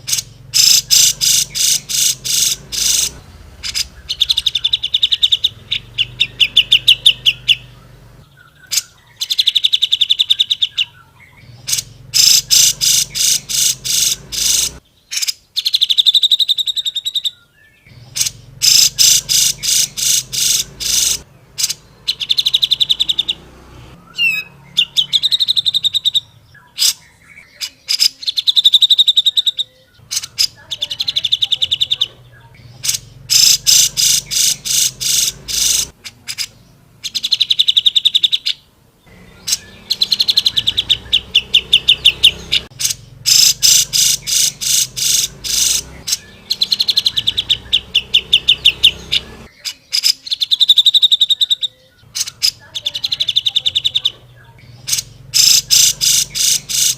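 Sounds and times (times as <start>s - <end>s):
bird singing rattling runs: 0.0s - 38.5s, 39.1s - 56.9s.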